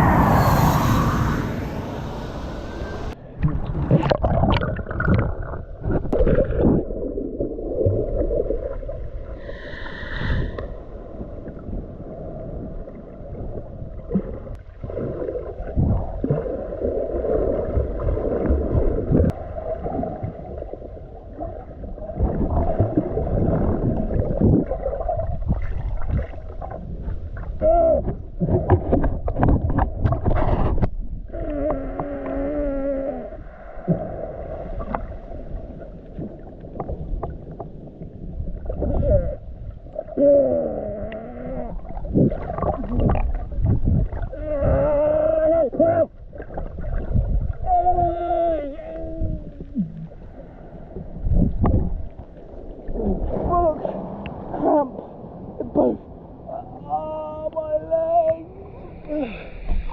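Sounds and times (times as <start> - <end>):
muffled underwater sloshing: 0.0 - 59.9.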